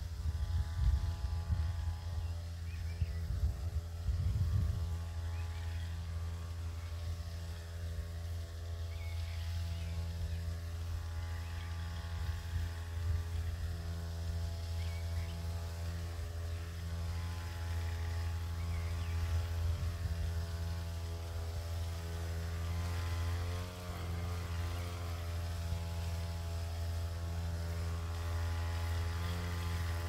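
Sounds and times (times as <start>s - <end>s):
spray pump engine humming: 0.0s - 30.0s.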